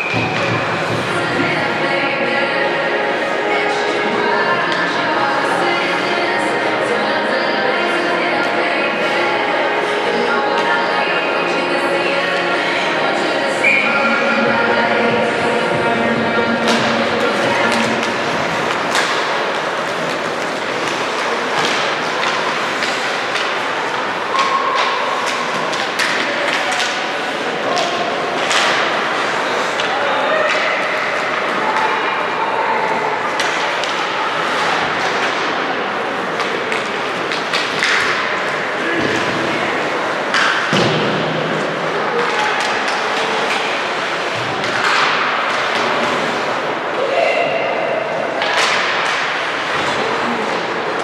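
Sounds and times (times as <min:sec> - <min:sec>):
hubbub in large hall: 0:00.0 - 0:51.0.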